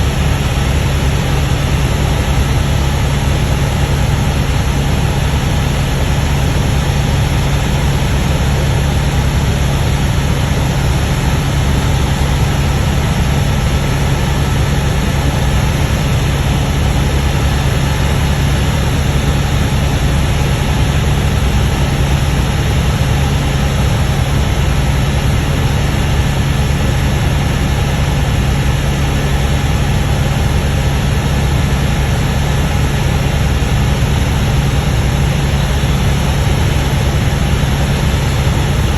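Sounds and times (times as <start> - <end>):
helicopter in flight: 0.0 - 38.9.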